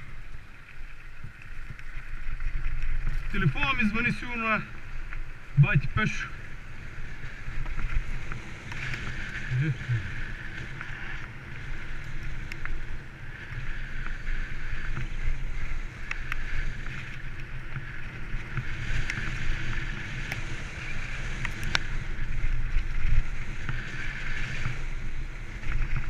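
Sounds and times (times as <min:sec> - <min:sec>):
bike rattles and clicks: 0:00.0 - 0:26.0
tyres rumbling on rough ground: 0:00.0 - 0:26.0
wind rushing over microphone: 0:00.0 - 0:26.0.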